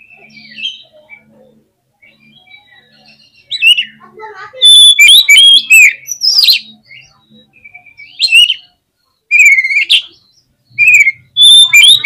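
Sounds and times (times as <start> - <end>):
magpie-robin singing: 0.0 - 12.0.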